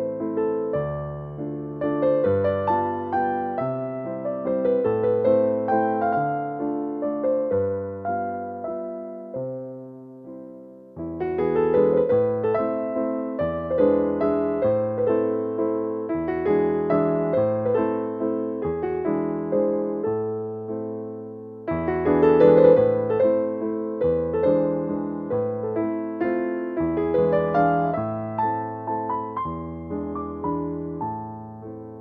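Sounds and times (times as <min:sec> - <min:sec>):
soft electric piano music: 0:00.0 - 0:32.0.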